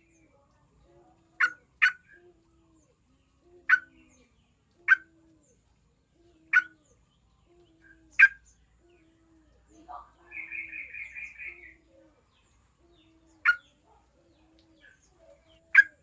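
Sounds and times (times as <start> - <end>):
bird chirping calls: 0.0 - 16.0
faint low cooing: 0.0 - 16.0.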